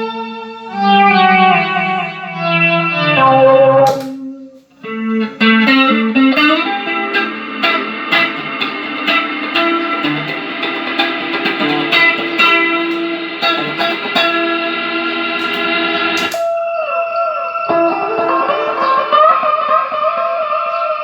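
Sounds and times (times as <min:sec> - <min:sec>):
electric guitar with effects: 0:00.0 - 0:21.0.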